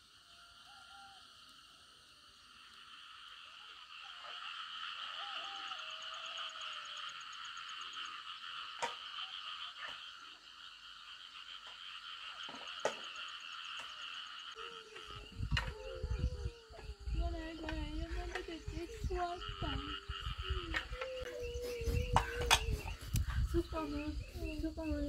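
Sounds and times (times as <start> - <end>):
chorus of frogs calling: 0.0 - 25.0.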